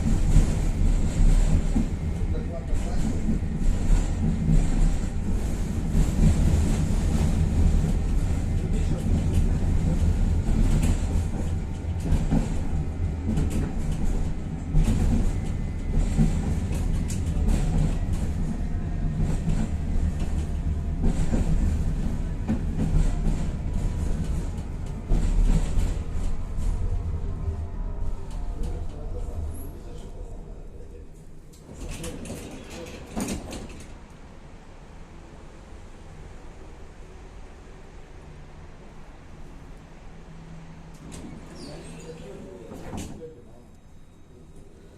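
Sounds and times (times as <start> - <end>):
tram wheels rumbling: 0.0 - 44.9.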